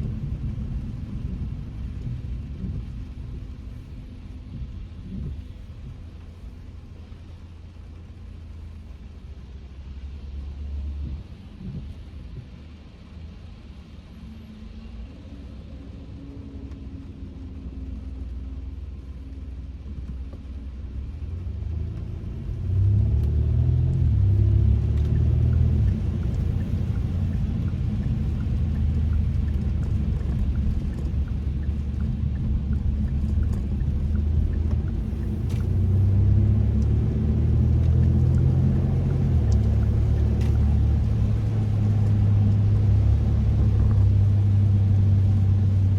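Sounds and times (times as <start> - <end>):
car driving road and engine noise: 0.0 - 45.9.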